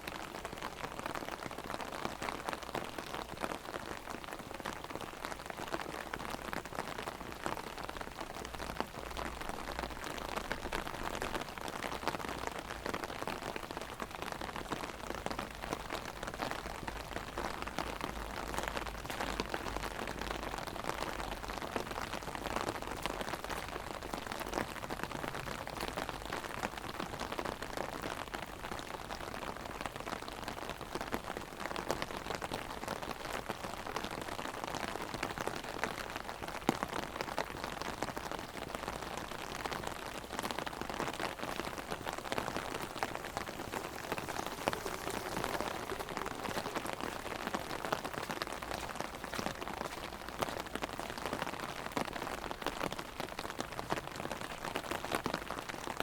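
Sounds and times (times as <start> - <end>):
heavy rain on an umbrella: 0.0 - 56.0.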